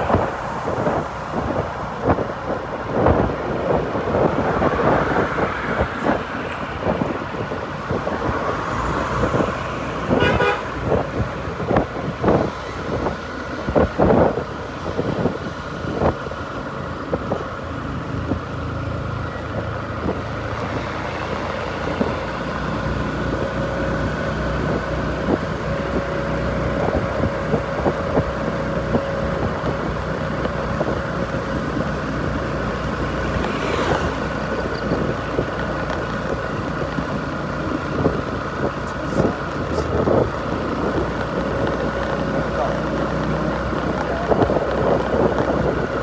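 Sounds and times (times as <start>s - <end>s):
engine droning: 0.0s - 46.0s.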